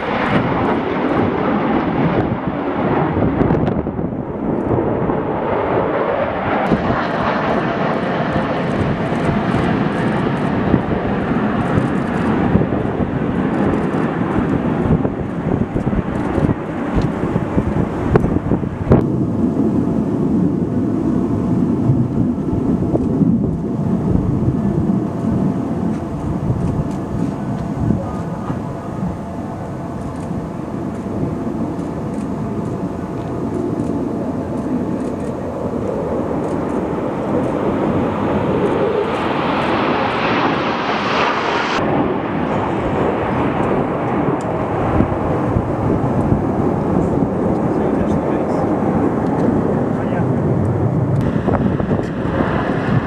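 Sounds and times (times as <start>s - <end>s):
jet aircraft roaring past: 0.0s - 53.0s.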